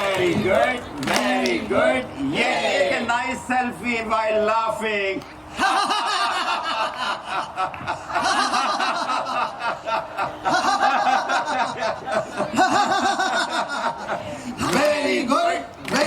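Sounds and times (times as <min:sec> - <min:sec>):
group laughing rhythmically: 0:00.0 - 0:02.3, 0:05.4 - 0:16.0.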